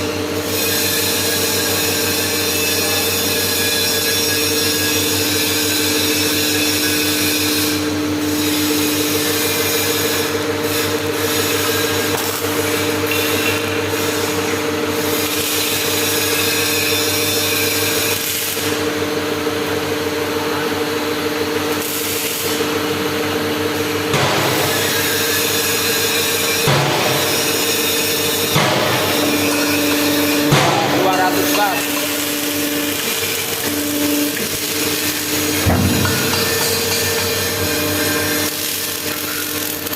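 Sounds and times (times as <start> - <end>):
hydraulic pump motor humming: 4.0 - 39.9.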